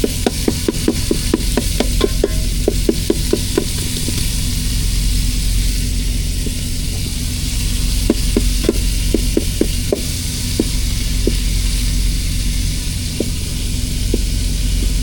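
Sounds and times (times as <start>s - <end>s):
low engine hum: 0.0s - 15.0s
meat sizzling in a frying pan: 0.0s - 15.0s.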